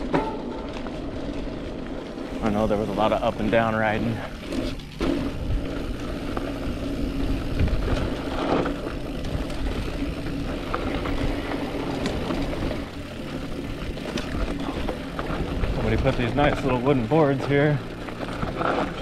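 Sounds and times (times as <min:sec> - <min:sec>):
bike clicks and rattles: 0:00.0 - 0:19.0
low hum: 0:00.0 - 0:19.0
tyres rumbling on dirt: 0:00.0 - 0:19.0.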